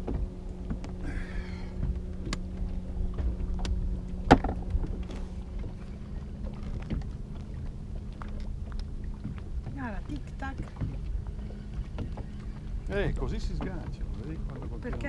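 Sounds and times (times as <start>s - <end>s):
steady low hum: 0.0s - 15.0s
wind rumble on microphone: 0.0s - 15.0s.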